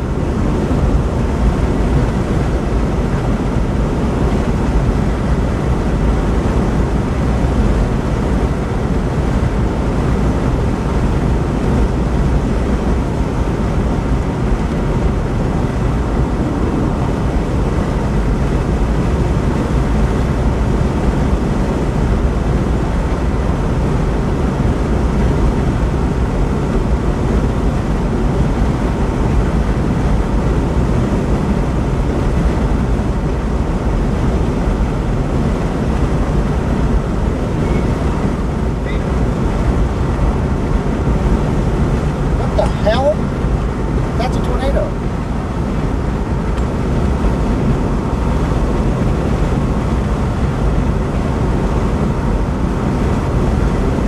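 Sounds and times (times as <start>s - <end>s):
tyre and wind road noise: 0.0s - 54.0s.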